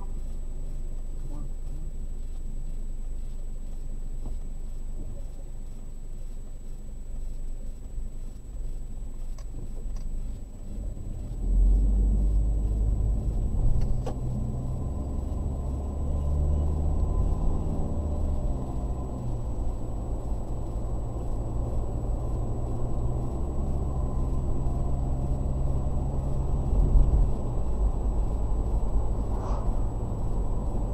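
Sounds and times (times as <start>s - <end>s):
car engine and tyre rumble: 0.0s - 30.9s.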